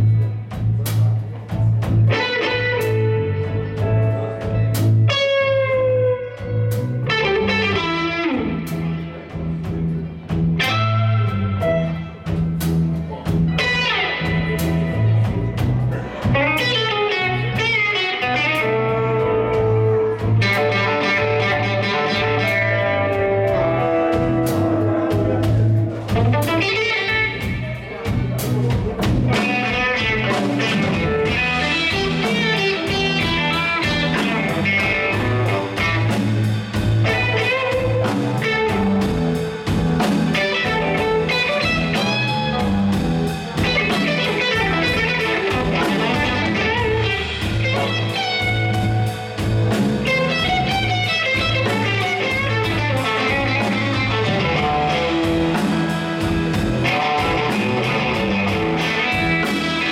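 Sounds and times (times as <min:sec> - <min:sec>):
bass and drums: 0:00.0 - 0:59.9
electric guitar: 0:00.0 - 0:59.9.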